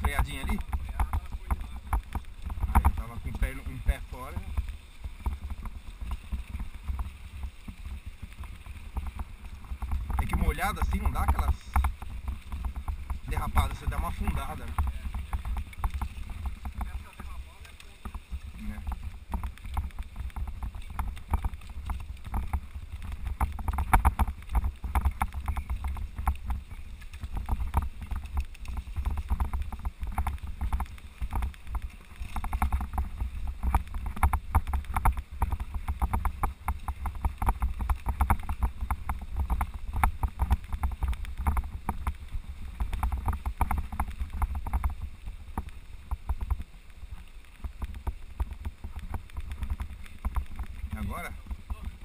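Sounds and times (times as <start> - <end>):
bike rattling over bumps: 0.0 - 52.0
steady low rumble: 0.0 - 52.0.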